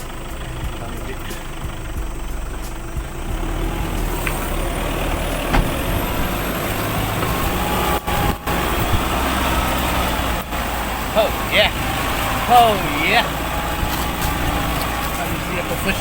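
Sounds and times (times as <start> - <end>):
high whine: 0.0 - 16.0
vehicle engine under heavy throttle: 0.0 - 16.0.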